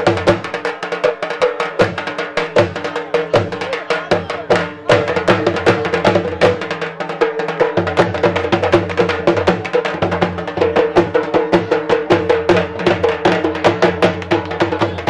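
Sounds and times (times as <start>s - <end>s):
drums beaten with sticks: 0.0s - 15.0s.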